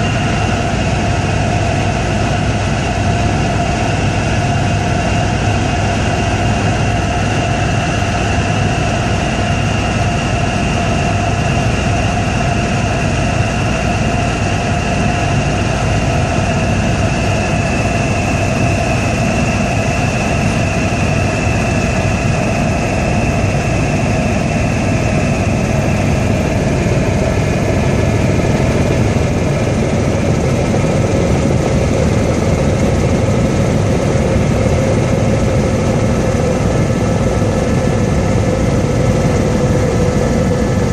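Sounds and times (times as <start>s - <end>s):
helicopter turbine and rotor running: 0.0s - 40.9s.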